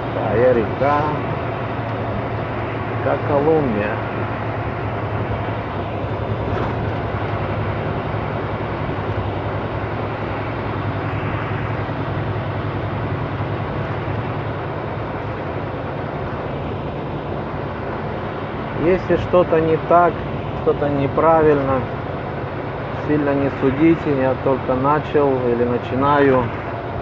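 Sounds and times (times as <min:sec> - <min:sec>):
truck diesel engine running: 0:00.0 - 0:27.0
tyre and road noise: 0:00.0 - 0:27.0.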